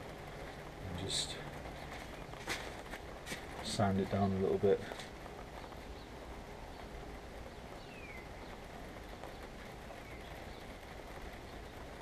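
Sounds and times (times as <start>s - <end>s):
room hiss: 0.0s - 12.0s.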